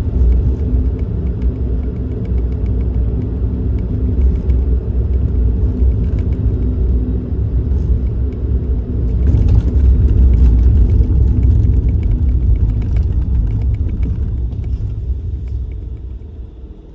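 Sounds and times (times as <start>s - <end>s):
car engine rumble: 0.0s - 16.9s
road noise: 0.0s - 16.9s.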